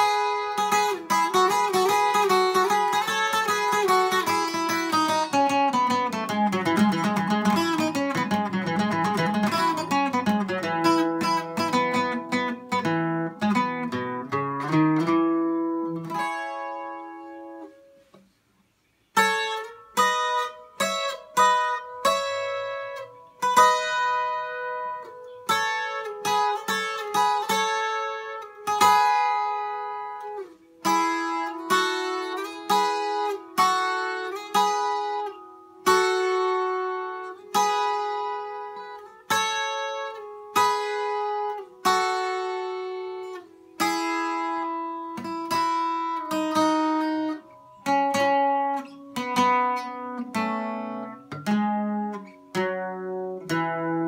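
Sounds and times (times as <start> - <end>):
twelve-string acoustic guitar: 0.0 - 54.0.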